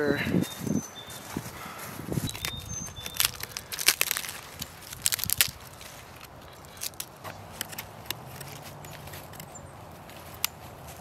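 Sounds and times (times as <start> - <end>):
dead wood crackling and crunching: 0.4 - 11.0.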